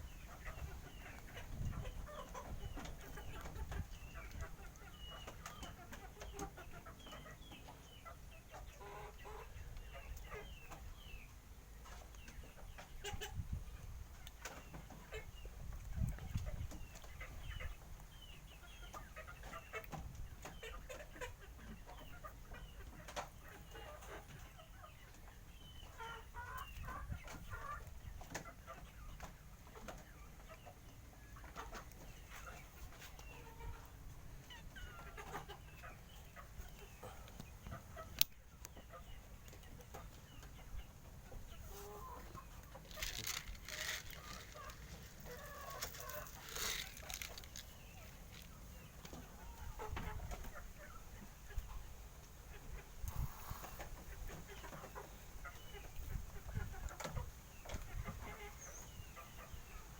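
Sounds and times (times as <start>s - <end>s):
animal chirping and clucking: 0.0s - 59.9s.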